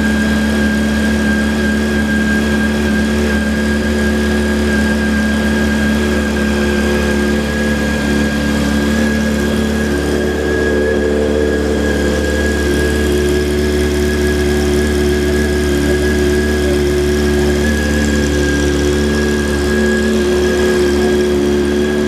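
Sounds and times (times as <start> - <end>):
motorcycle engine idling: 0.0 - 22.0
thin high whine: 0.0 - 22.0.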